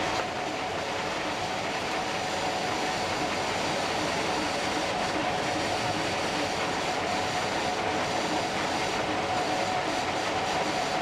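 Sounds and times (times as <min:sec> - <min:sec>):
steady mechanical whine: 0:00.0 - 0:11.0.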